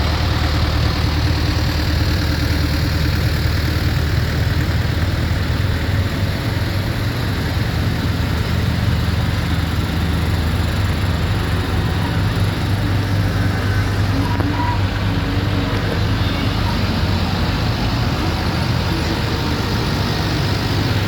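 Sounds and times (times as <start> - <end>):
tractor engines running: 0.0 - 21.0.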